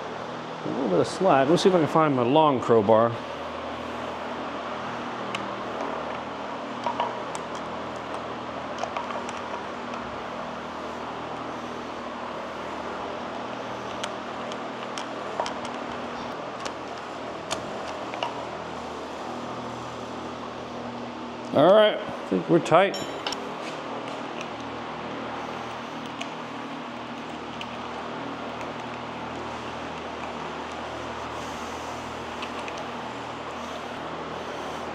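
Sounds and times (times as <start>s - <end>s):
steady mechanical hum: 0.0s - 34.9s.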